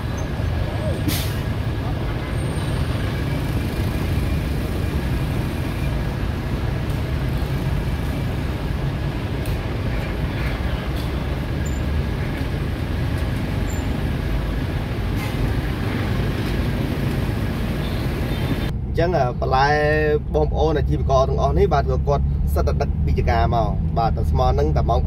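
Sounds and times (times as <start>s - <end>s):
road noise: 0.0s - 25.0s
vehicle engine rumble: 0.0s - 25.0s.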